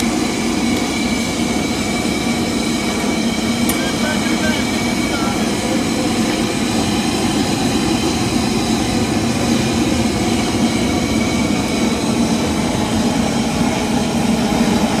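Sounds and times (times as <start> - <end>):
low roar of fire: 0.0 - 15.0.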